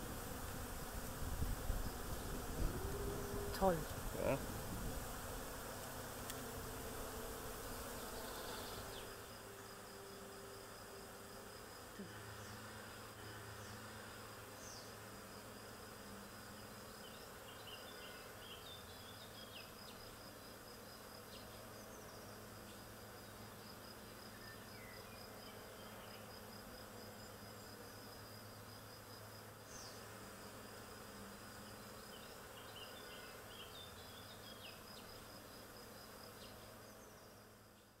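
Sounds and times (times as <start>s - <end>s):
honeybees buzzing: 0.0s - 24.3s, 25.2s - 37.7s.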